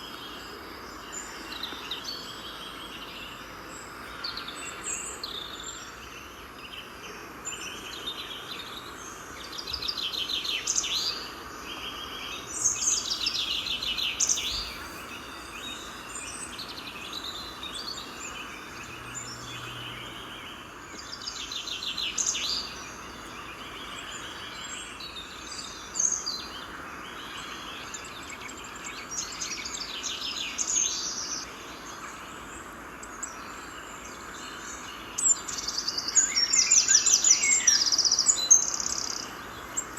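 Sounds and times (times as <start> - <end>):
songbirds trilling: 0.0 - 32.0
steady background hiss: 0.0 - 39.9.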